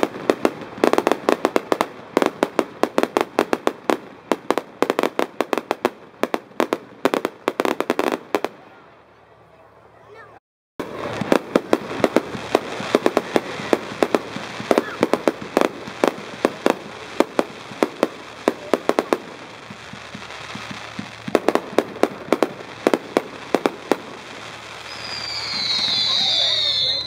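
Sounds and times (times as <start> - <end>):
fireworks popping and banging: 0.0 - 8.8, 10.8 - 27.0.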